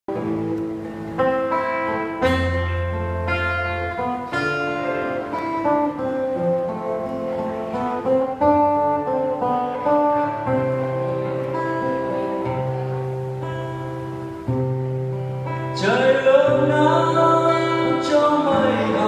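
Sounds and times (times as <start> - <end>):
slow acoustic guitar: 0.1 - 19.0.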